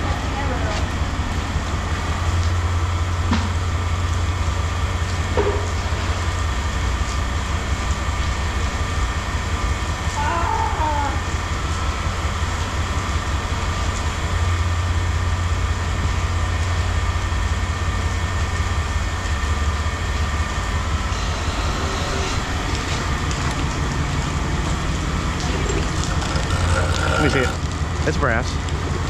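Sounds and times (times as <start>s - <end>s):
machinery engine rumble: 0.0s - 29.0s.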